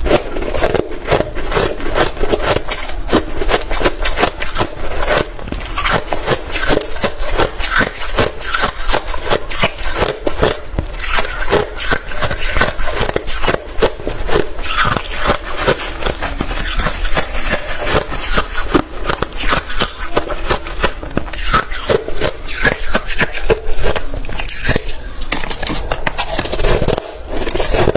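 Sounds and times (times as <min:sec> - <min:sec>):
chewing crushed ice: 0:00.0 - 0:27.9.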